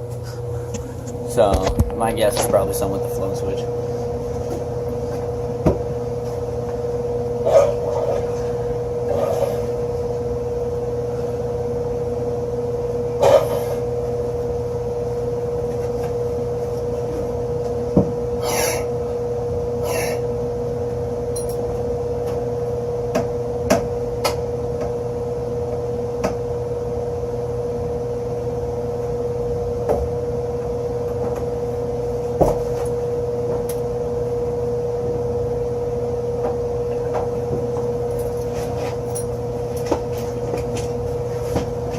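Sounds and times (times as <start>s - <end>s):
hvac equipment humming: 0.0s - 41.9s.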